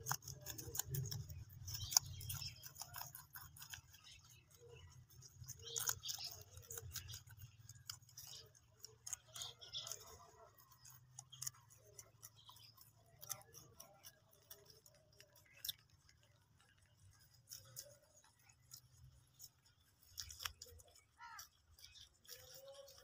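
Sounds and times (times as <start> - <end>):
rabbits chewing grass: 0.0 - 23.0.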